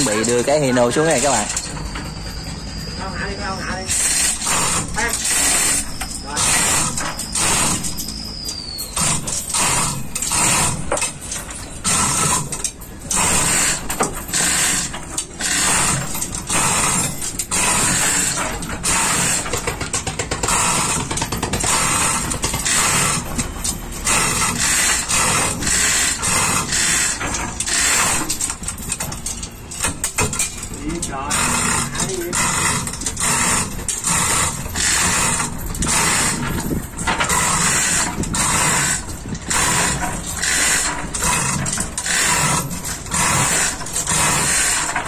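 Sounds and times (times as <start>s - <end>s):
chain links rattling: 0.0s - 45.0s
ratchet clicking: 3.9s - 45.0s.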